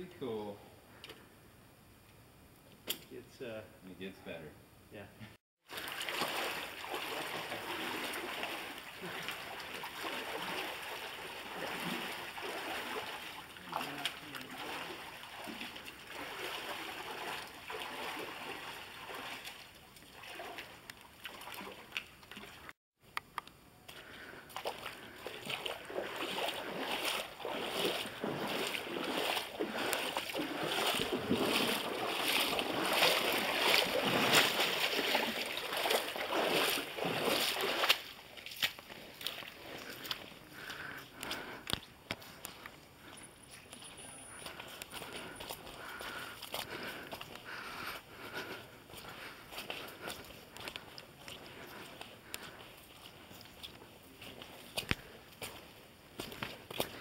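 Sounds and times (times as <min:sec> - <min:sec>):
feet splashing in creek water: 0:05.6 - 0:22.8, 0:23.9 - 0:57.0.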